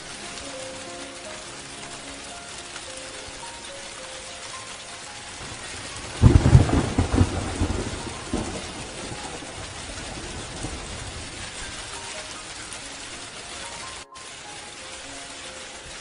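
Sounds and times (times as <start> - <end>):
thunder rumbling: 0.0 - 15.1
steady rain hissing: 0.0 - 16.0.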